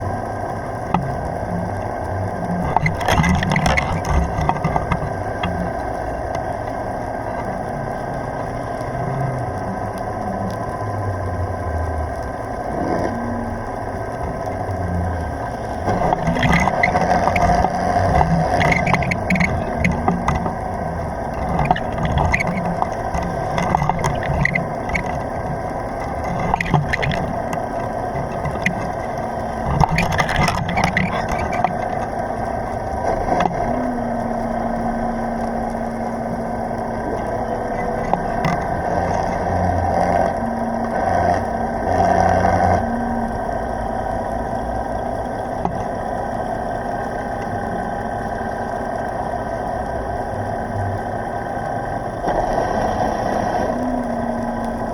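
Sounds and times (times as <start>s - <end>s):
boat engine idling underwater: 0.0s - 54.9s
steady held tone: 0.0s - 54.9s.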